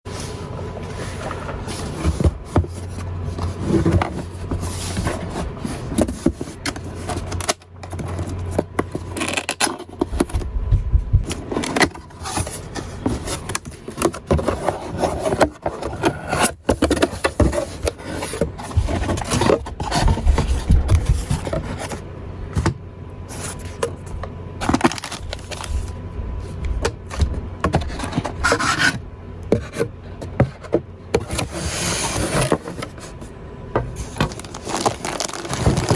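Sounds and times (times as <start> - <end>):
scraping and rubbing: 0.1 - 10.6, 11.2 - 22.6, 27.1 - 33.3, 33.9 - 35.9
cardboard box being handled: 0.1 - 29.0, 29.6 - 33.3, 33.9 - 35.9.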